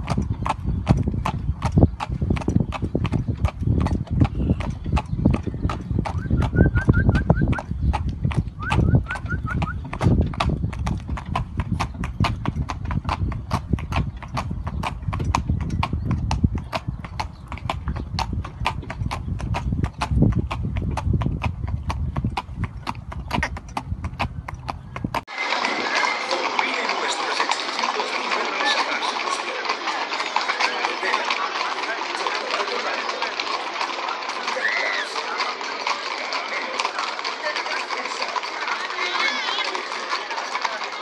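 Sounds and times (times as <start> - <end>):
hooves clip-clopping on asphalt: 0.0 - 41.0.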